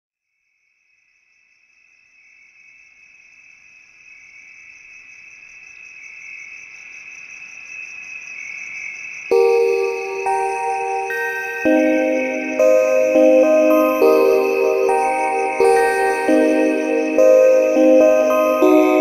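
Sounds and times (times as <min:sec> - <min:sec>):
crickets trilling: 0:00.6 - 0:19.0.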